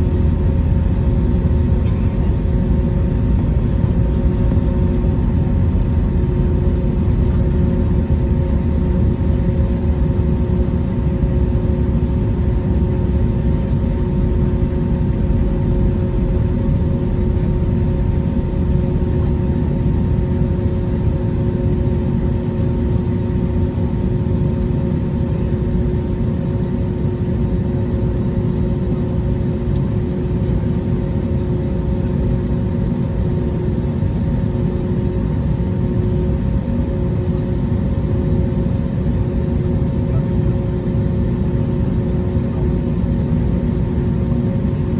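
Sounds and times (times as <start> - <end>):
jet engines low rumble: 0.0 - 44.9.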